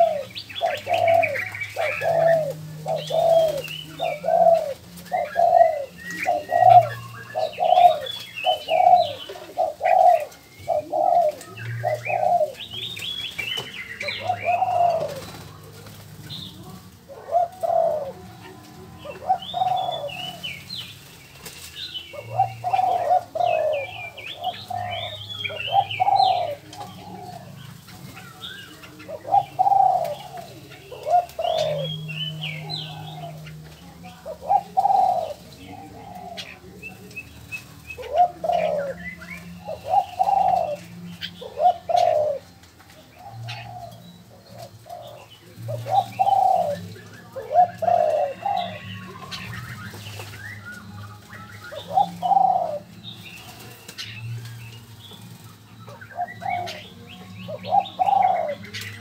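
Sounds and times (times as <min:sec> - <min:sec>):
doves cooing: 0:00.0 - 0:59.0
small birds chirping: 0:00.0 - 0:59.0.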